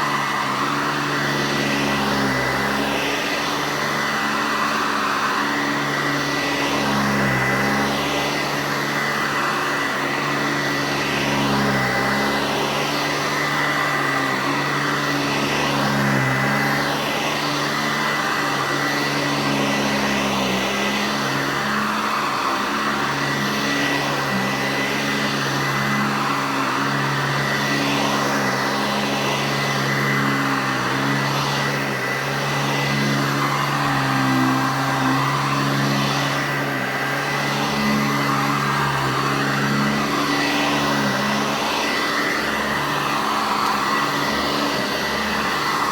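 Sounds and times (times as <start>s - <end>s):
upright vacuum screaming: 0.0s - 45.9s.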